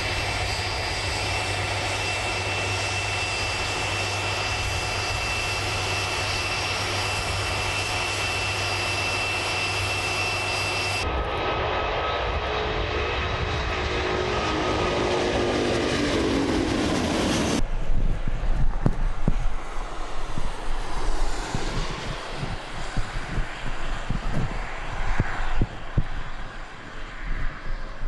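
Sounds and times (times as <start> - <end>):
deep rumbling take-off roar: 0.0 - 28.0
jet engines roaring overhead: 0.0 - 28.0
wind buffeting microphone: 0.0 - 28.0.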